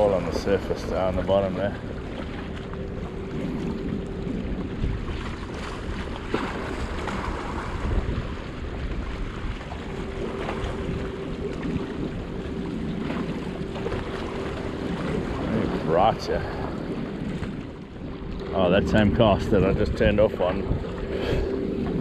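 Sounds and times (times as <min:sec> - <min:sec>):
choppy water: 0:00.0 - 0:22.0
faint steady hum: 0:00.0 - 0:22.0
wind buffeting microphone: 0:00.0 - 0:22.0.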